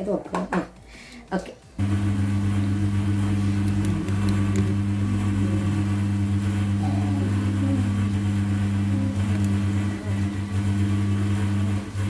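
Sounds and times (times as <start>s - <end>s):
low electric hum: 1.8s - 12.0s.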